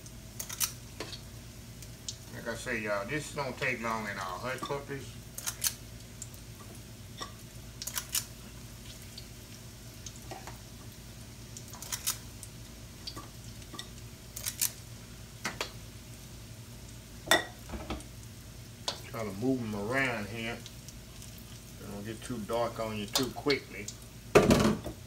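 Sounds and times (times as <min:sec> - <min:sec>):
oil sizzling: 0:00.0 - 0:25.0.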